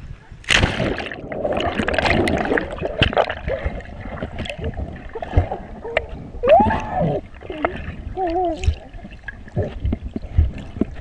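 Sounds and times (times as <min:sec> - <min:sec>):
underwater bubbling and rushing: 0:00.0 - 0:11.0.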